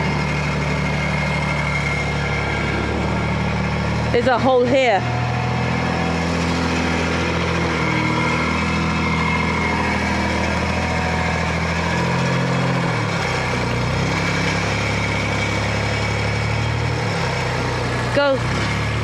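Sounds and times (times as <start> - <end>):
small digger engine running: 0.0 - 19.0.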